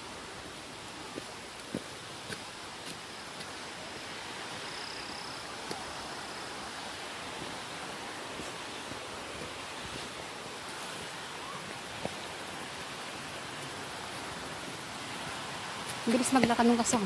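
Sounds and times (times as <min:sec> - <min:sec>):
steady rushing hiss: 0:00.0 - 0:17.0
footsteps on dirt and rock trail: 0:00.5 - 0:04.6, 0:05.6 - 0:17.0.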